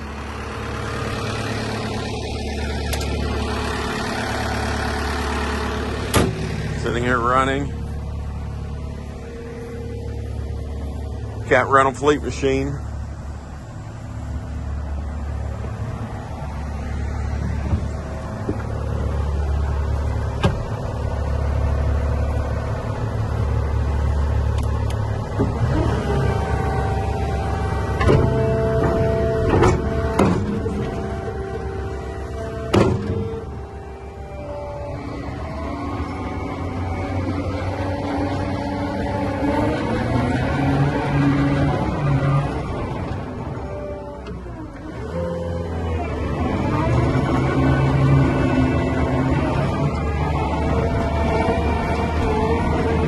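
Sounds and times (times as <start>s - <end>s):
skid steer diesel engine running: 0.0s - 53.0s.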